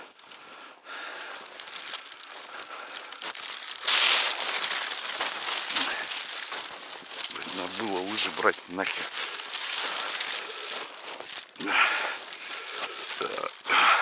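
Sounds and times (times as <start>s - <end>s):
footsteps crunching in snow: 0.0s - 14.0s.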